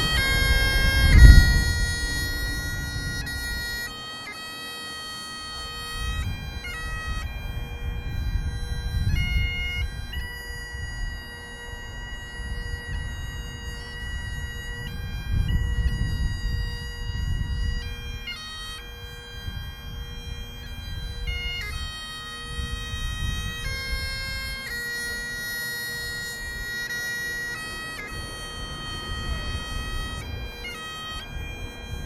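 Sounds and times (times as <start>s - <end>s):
bagpipe drone: 0.0s - 32.0s
bagpipes playing slow melody: 0.0s - 32.0s.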